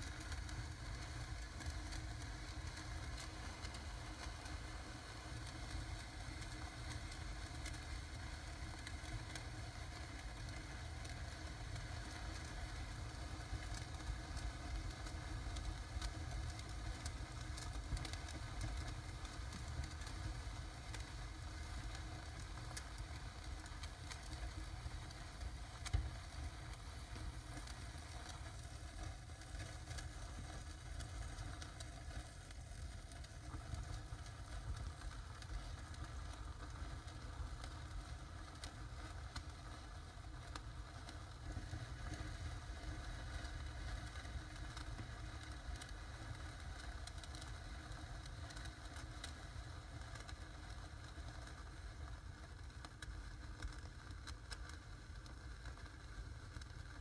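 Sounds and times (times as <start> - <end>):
firework crackles: 0.0 - 57.0.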